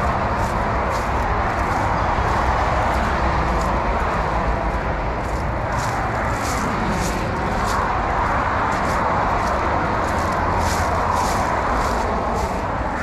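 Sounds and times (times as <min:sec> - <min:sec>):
footsteps on dirt path: 0:00.0 - 0:13.0
highway traffic: 0:00.0 - 0:13.0.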